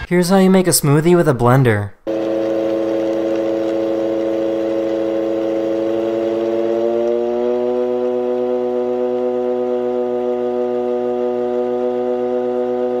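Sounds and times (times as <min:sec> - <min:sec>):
blender motor running: 0:02.1 - 0:13.0.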